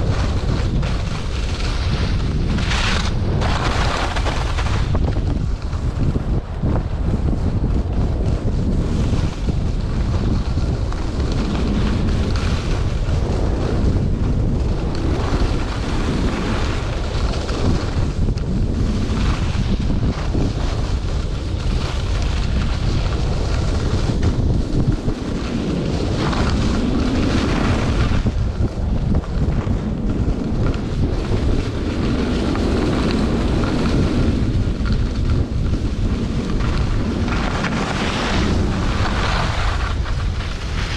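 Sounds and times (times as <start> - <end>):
ski edges scraping on snow: 0.0 - 6.3, 7.1 - 40.9
wind rushing over microphone: 0.0 - 40.9.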